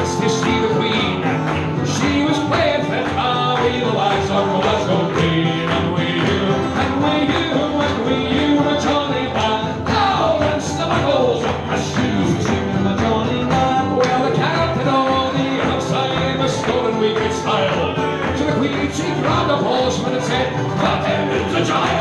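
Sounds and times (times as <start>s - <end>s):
folk band playing: 0.0s - 22.0s
strummed acoustic strings: 0.0s - 22.0s.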